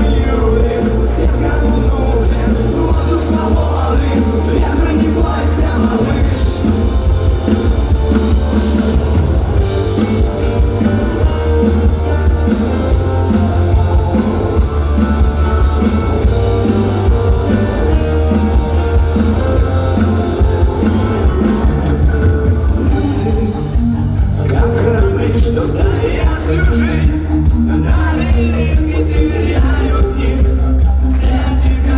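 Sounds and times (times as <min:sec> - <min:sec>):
live rock band playing: 0:00.0 - 0:31.9.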